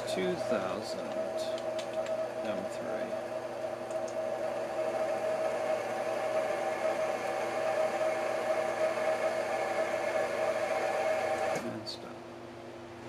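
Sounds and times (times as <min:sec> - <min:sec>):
milling machine spindle hum: 0:00.0 - 0:12.0.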